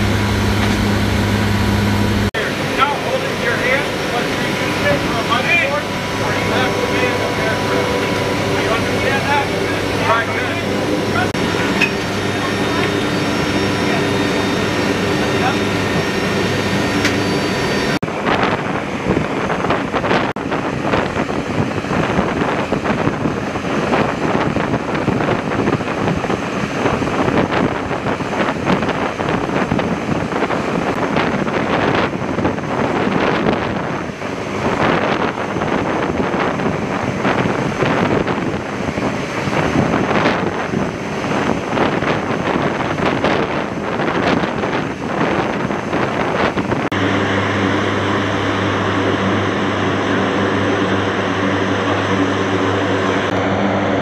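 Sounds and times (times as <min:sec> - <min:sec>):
aircraft engines rushing: 0:00.0 - 0:54.0
wind buffeting microphone: 0:00.0 - 0:54.0.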